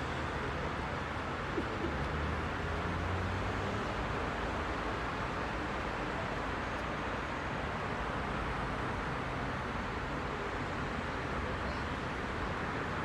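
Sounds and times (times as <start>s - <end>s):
heavy road traffic hum: 0.0s - 13.0s.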